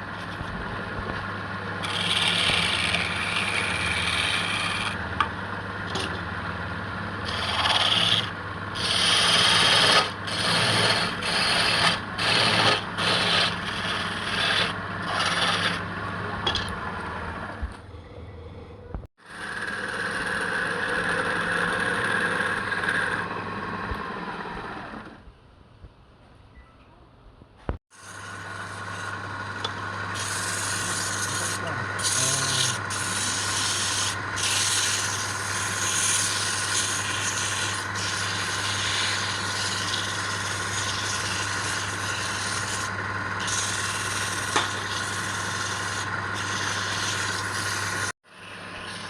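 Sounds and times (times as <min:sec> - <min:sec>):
tool rasping spinning wood: 0:00.0 - 0:17.6, 0:19.2 - 0:25.2, 0:27.9 - 0:49.0
wood lathe motor hum: 0:00.0 - 0:17.6, 0:19.2 - 0:25.2, 0:27.9 - 0:49.0.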